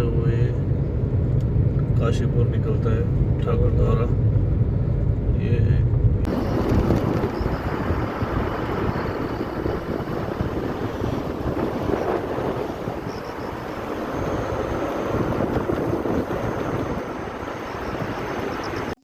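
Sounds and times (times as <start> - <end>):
car driving at speed: 0.0 - 19.0.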